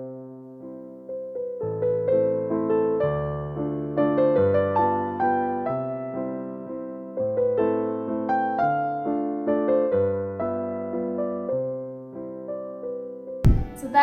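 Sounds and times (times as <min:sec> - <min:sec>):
soft piano melody: 0:00.0 - 0:14.0.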